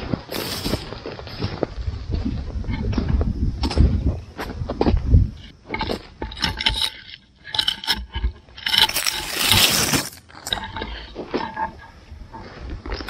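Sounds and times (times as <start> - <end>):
footsteps through crops: 0.0 - 7.8, 8.6 - 13.0
rustling of crops: 0.0 - 13.0.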